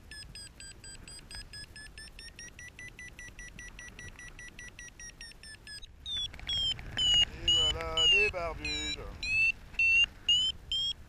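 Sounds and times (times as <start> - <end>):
variometer climb beeps: 0.0 - 11.0
low rush of wind: 0.1 - 11.0.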